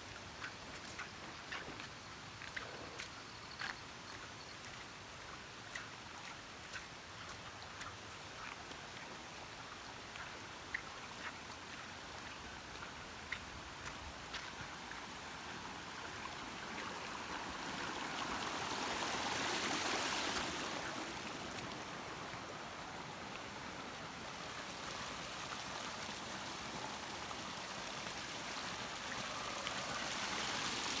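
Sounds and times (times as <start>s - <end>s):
running water rushing: 4.1s - 31.0s.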